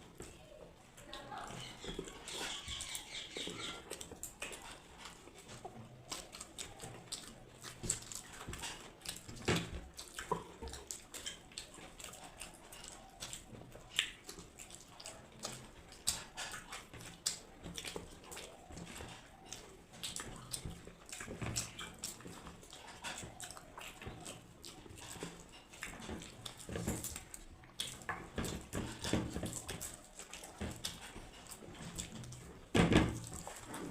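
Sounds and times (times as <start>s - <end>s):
wet chewing and mouth smacks: 0.0s - 33.9s.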